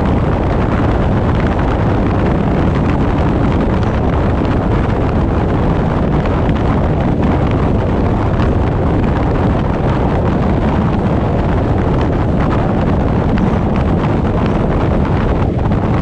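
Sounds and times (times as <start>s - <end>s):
car road and engine noise: 0.0s - 16.0s
wind buffeting microphone: 0.0s - 16.0s.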